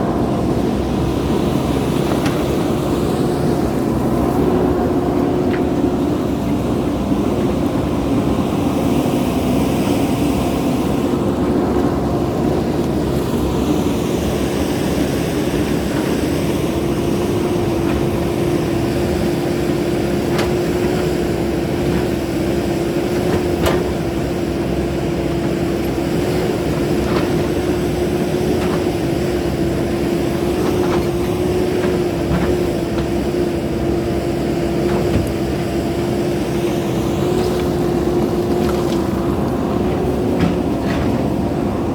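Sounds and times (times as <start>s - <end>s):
machinery humming: 0.0s - 41.9s.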